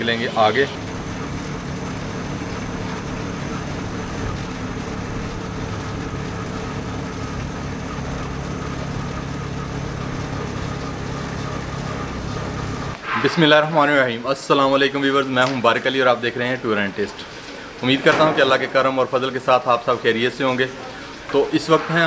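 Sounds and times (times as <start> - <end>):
vehicle engine drone: 0.0 - 13.6, 16.0 - 22.0
road noise: 0.0 - 22.0.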